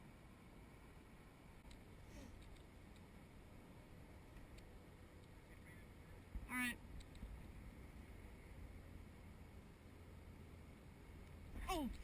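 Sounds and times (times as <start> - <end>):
faint low rumble: 0.0 - 12.0.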